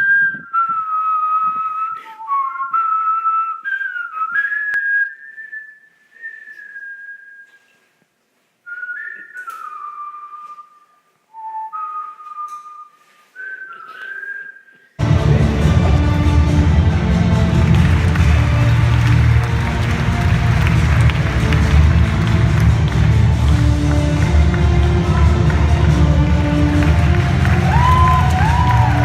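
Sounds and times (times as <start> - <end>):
whistled melody: 0.0 - 7.8, 8.7 - 29.0.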